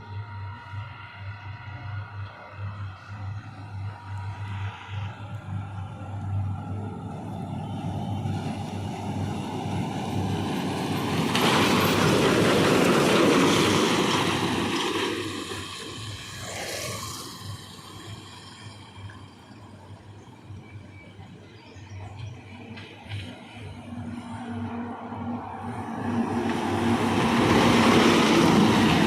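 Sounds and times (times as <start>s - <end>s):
heavy truck passing: 0.0s - 20.6s, 22.9s - 29.0s.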